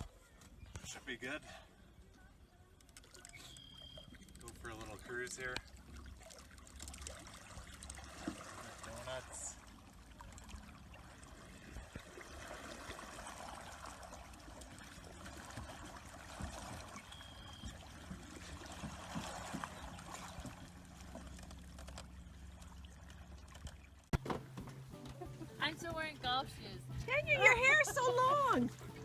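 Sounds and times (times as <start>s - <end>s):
water sloshing and trickling: 0.0s - 29.0s.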